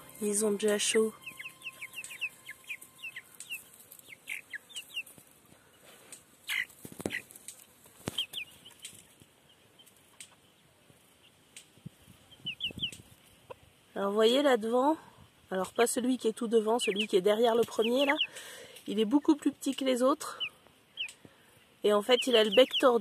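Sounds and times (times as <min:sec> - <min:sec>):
chicks peeping: 0:00.0 - 0:14.8, 0:15.5 - 0:23.0.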